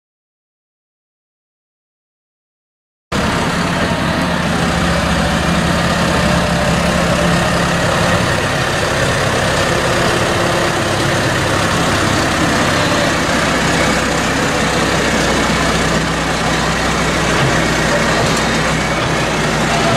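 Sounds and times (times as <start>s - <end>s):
tractor diesel engine running: 3.1s - 19.9s.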